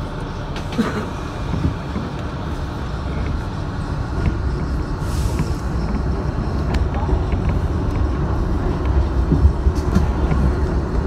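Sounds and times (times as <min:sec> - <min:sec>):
subway train rumbling: 0:00.0 - 0:11.0
wheels clicking on track: 0:00.0 - 0:11.0.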